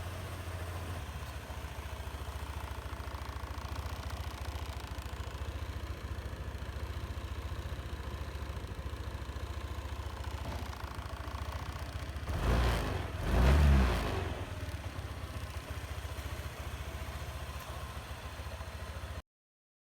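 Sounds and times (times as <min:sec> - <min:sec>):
scooter engine idling and blipping: 0:00.0 - 0:19.2.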